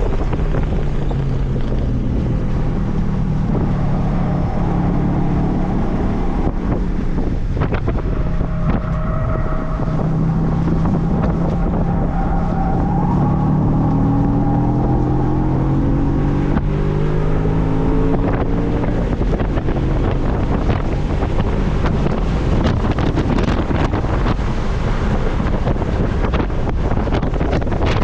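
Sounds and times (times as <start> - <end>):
car engine pulling: 0.0 - 28.0
wind rush on microphone: 0.0 - 28.0.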